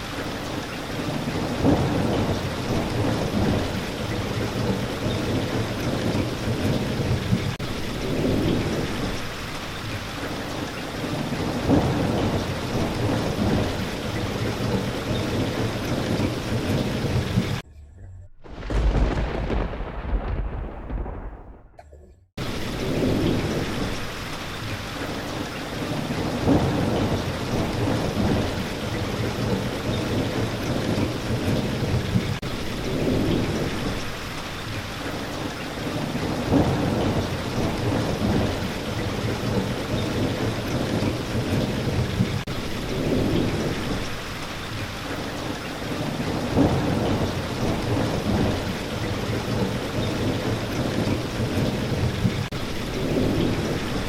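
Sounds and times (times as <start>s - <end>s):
rolling thunder rumbles: 0.0s - 17.6s, 18.4s - 54.0s
steady rain: 0.0s - 17.6s, 18.4s - 21.8s, 22.4s - 54.0s.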